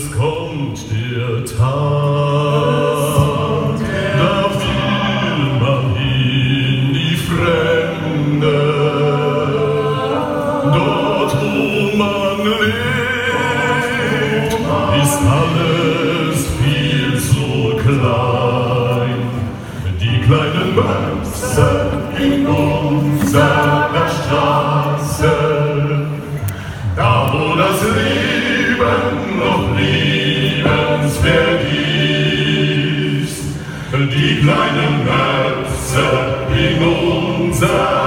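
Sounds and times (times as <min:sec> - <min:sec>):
male choir singing in harmony: 0:00.0 - 0:38.0.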